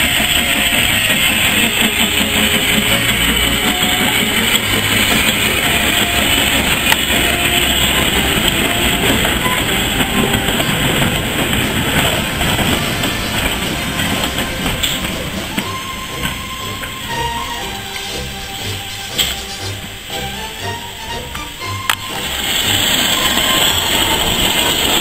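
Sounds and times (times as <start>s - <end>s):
train wheels rolling on track: 0.0s - 25.0s.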